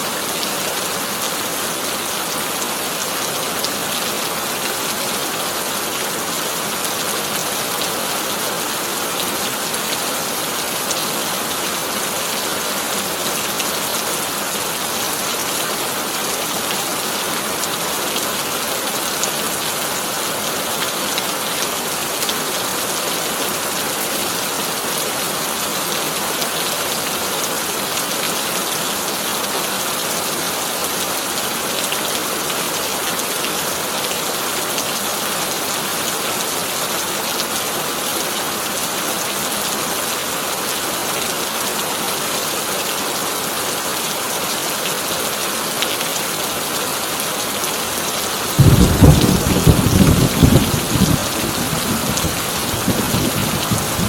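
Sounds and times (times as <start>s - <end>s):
heavy rain on a tin roof: 0.0s - 54.0s.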